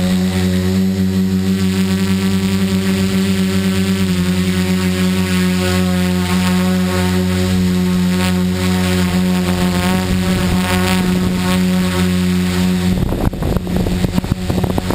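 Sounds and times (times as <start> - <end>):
drone propellers buzzing: 0.0 - 14.9.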